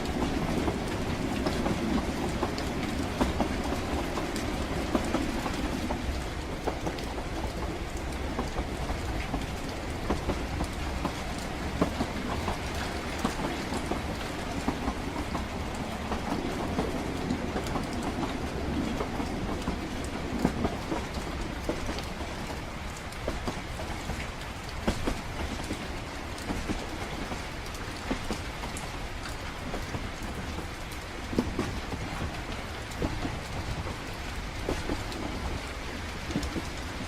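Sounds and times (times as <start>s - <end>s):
rain falling: 0.0s - 37.0s
train rumbling: 0.0s - 37.0s.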